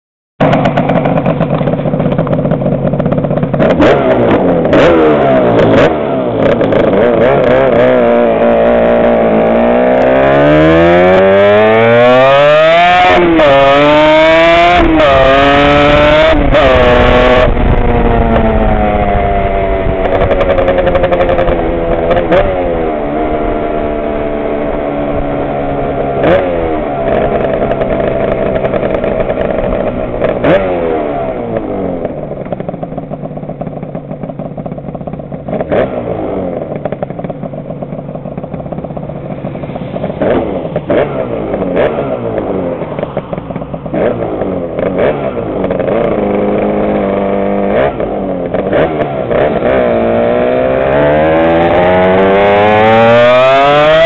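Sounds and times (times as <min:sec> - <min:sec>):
two-stroke motorcycle engine: 0:00.4 - 0:54.0.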